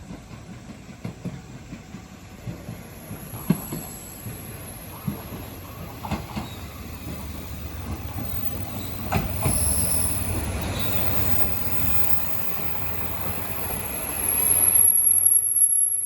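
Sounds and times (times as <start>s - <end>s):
wheels knocking on rail joints: 0.0s - 14.2s
train rumbling past: 0.0s - 16.0s.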